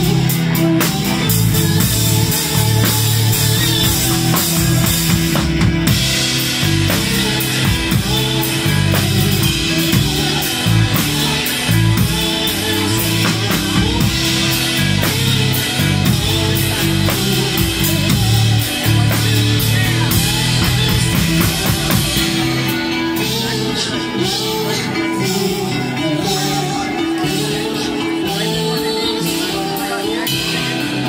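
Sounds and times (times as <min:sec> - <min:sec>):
drum kit: 0:00.0 - 0:31.0
electric bass guitar: 0:00.0 - 0:31.0
keyboard: 0:00.0 - 0:31.0.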